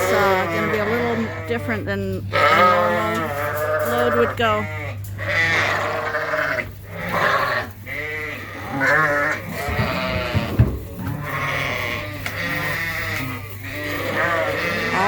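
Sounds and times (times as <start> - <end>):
sheep bleating: 0.0 - 15.0.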